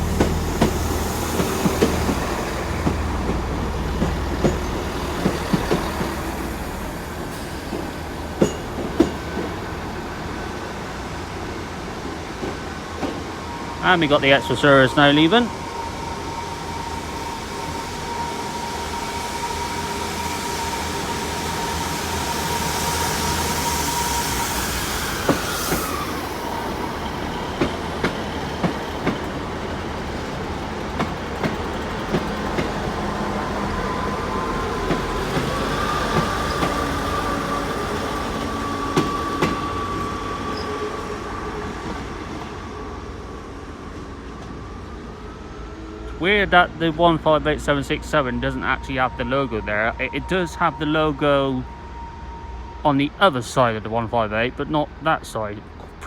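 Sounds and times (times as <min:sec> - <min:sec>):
diesel train engines whining: 0:00.0 - 0:56.0.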